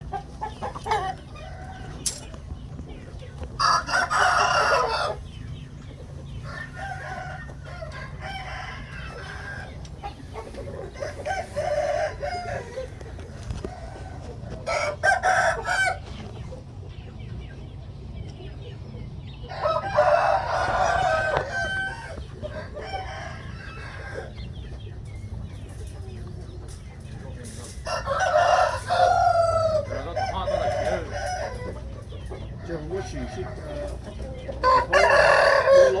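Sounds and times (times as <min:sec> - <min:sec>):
roosters crowing: 0:00.0 - 0:16.9, 0:18.6 - 0:36.0
chicken clucking: 0:00.0 - 0:36.0.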